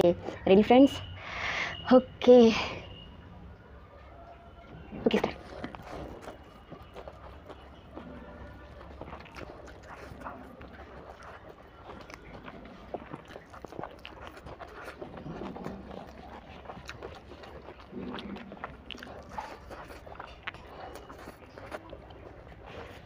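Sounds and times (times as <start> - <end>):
person chewing with wet smacks: 4.3 - 23.0.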